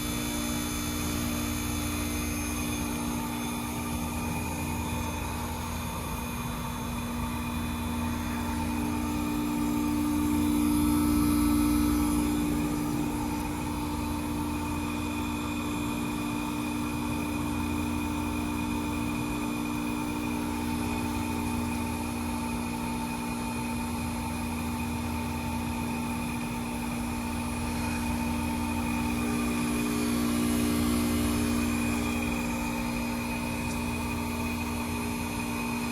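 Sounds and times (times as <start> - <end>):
heat pump humming: 0.0 - 35.9.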